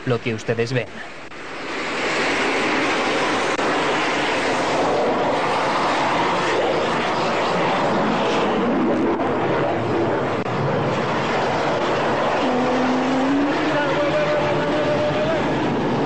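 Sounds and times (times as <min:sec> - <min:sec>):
fighter jet engines roaring: 0:01.0 - 0:16.0.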